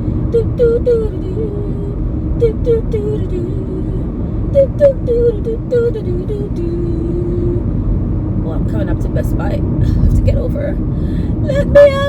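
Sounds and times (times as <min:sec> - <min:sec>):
car road rumble: 0:00.0 - 0:12.0.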